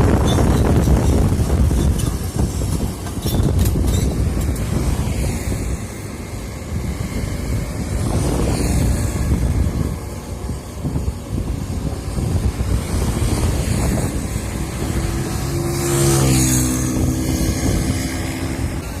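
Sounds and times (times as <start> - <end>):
excavator diesel engine: 0.0 - 19.0
wind on microphone: 0.0 - 19.0.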